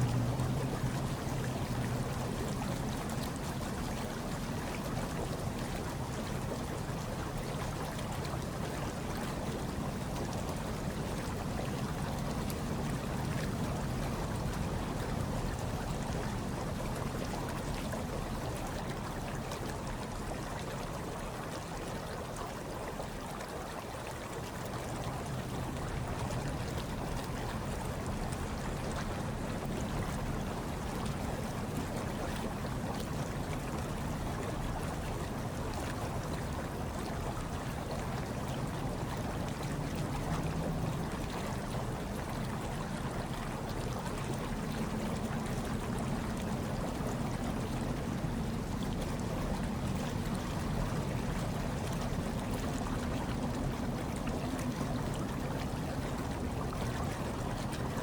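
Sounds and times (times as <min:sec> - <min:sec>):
hot tub water bubbling: 0:00.0 - 0:58.0.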